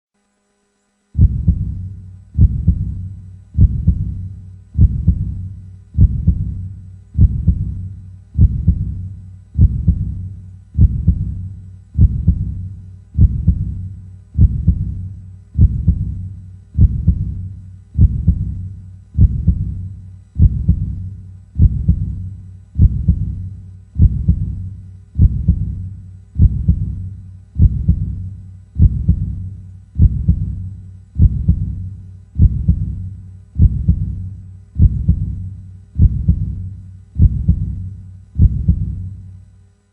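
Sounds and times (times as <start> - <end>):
heartbeat pulse: 1.2 - 39.4.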